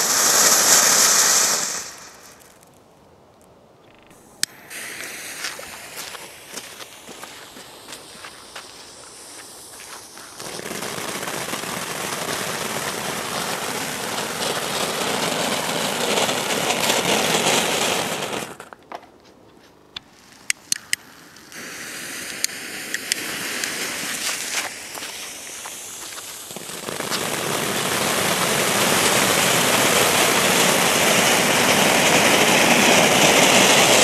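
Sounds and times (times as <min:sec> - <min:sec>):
firework fountain hissing: 0:00.0 - 0:02.6, 0:04.2 - 0:18.7, 0:20.0 - 0:34.0
sharp firework cracks: 0:00.0 - 0:02.8, 0:04.4 - 0:18.8, 0:20.0 - 0:34.0
fuse sizzling: 0:04.1 - 0:18.4, 0:19.8 - 0:34.0.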